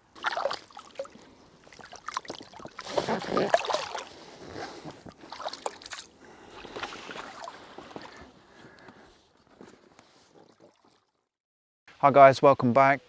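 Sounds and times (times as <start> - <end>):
water splashing and sloshing: 0.0 - 11.3.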